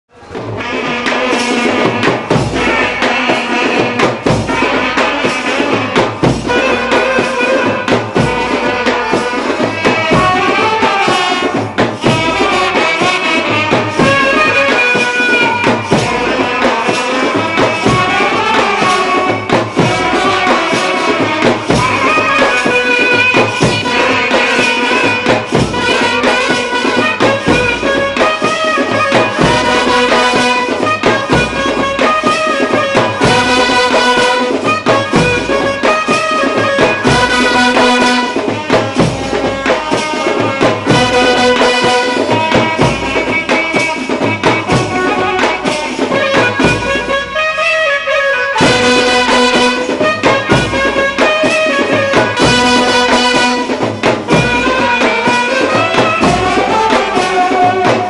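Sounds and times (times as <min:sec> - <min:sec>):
brass band playing: 0:00.1 - 0:58.0
steady drum beat: 0:00.1 - 0:58.0
trumpets: 0:00.1 - 0:58.0
saxophone melody: 0:00.2 - 0:58.0.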